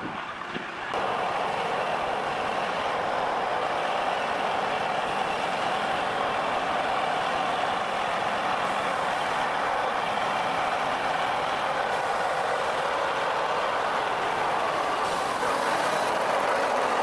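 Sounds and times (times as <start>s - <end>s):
engine droning: 0.2s - 17.0s.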